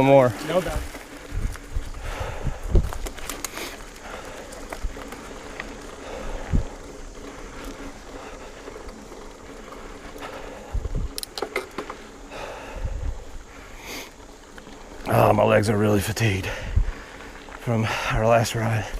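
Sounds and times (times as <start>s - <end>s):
wind noise: 0.0s - 14.3s, 14.9s - 18.9s
bike tyre noise: 0.0s - 18.9s
bike rattling clicks: 0.4s - 15.8s.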